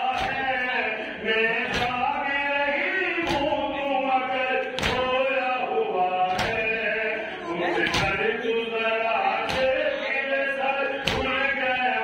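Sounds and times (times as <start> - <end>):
voices chanting a lament: 0.0 - 12.0.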